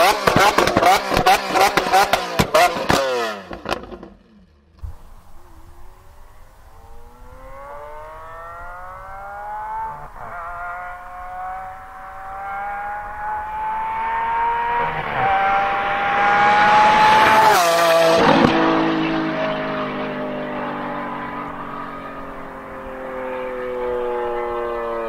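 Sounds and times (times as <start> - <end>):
sports car accelerating: 0.0 - 25.0.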